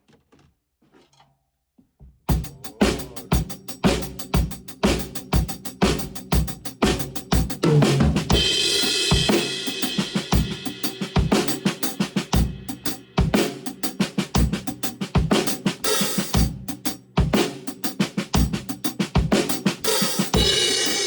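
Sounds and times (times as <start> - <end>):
drum kit groove: 2.3 - 21.0.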